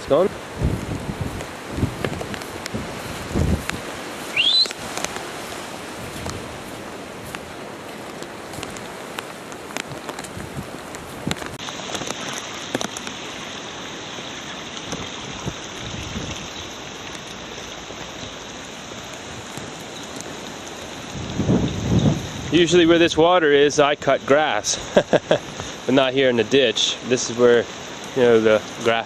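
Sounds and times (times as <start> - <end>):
rain and wind hissing: 0.0 - 29.0.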